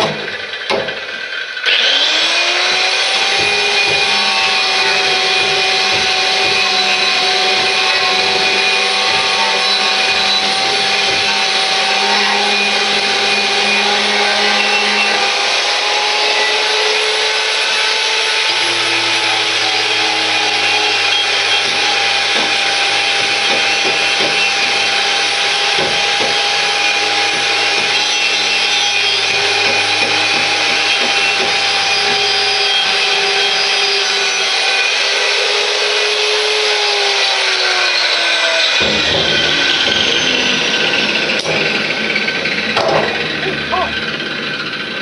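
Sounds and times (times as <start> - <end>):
power tool motor running: 0.0 - 45.0
tool scraping metal: 0.0 - 45.0.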